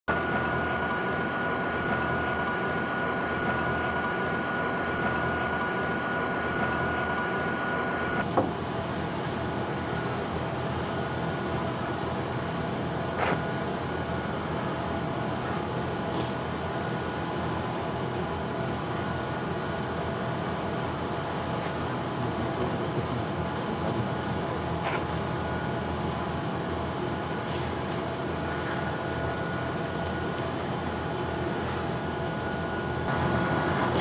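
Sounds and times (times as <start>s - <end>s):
charcoal fire roaring: 0.1s - 34.0s
thin whine: 0.1s - 34.0s.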